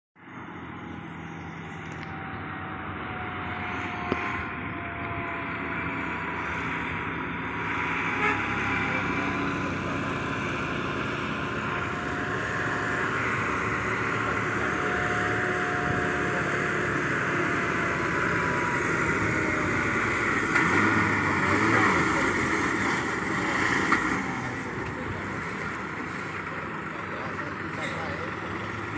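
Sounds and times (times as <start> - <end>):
diesel truck engine under load: 0.2 - 28.9.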